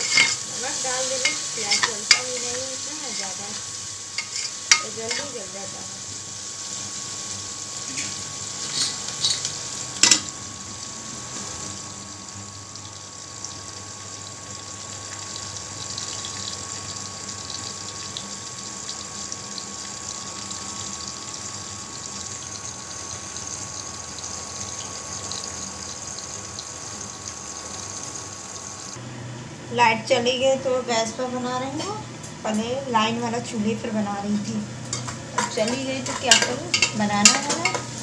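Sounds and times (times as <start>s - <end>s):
onions sizzling in hot oil: 0.0s - 29.0s, 30.2s - 38.0s
faint cooktop whine: 0.0s - 38.0s.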